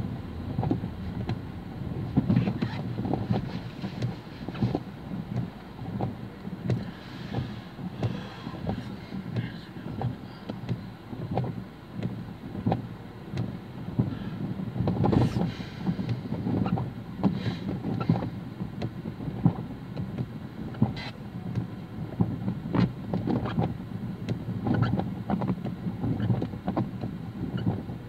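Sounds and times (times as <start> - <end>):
heavy rain on car roof: 0.0 - 28.0.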